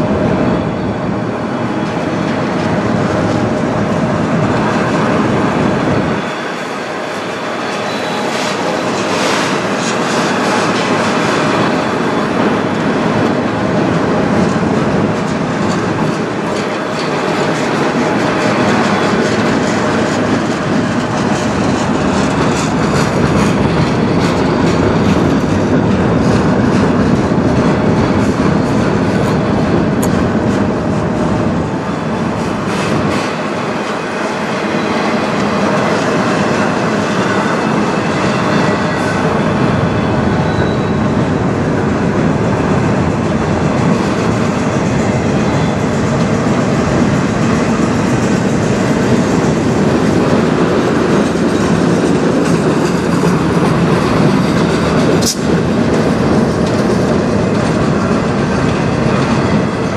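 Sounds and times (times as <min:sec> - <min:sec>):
steel wheels rumbling on rails: 0:00.0 - 0:59.9
wheels clacking over rail joints: 0:06.2 - 0:39.8, 0:40.4 - 0:59.9.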